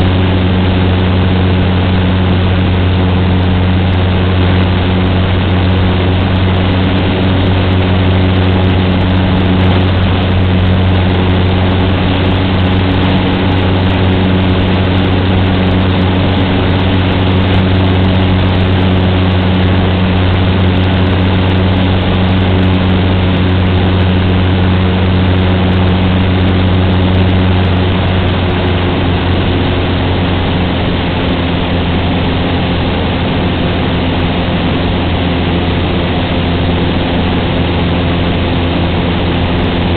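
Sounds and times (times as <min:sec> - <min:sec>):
small plane engine droning: 0:00.0 - 0:39.9.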